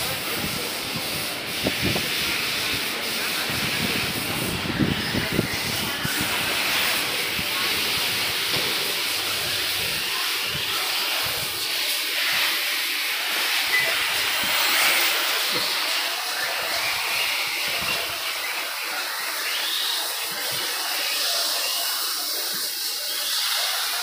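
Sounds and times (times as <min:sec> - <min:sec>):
rc cars tyres and motors hissing: 0:00.0 - 0:24.0.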